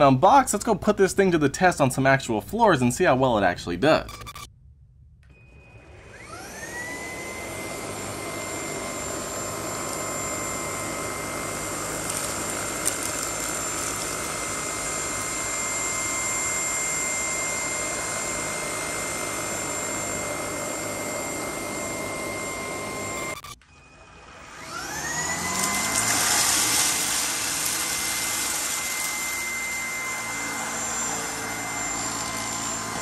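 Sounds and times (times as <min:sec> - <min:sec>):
vacuum cleaner motor whine: 0:05.3 - 0:33.0.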